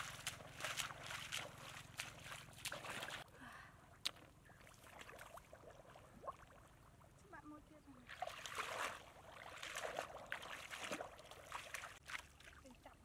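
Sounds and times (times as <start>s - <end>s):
legs wading through muddy water: 0.0s - 3.3s, 4.0s - 13.0s
soft water sounds: 0.0s - 13.0s.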